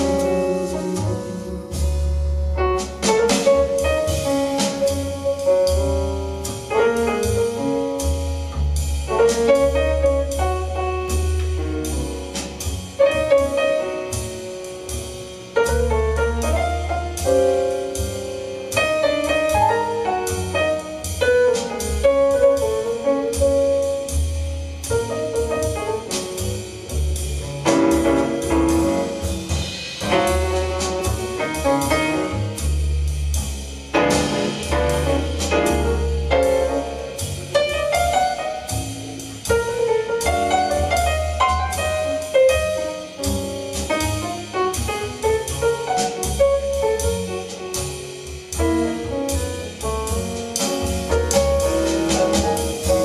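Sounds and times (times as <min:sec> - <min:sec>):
jazz music over speakers: 0:00.0 - 0:53.0.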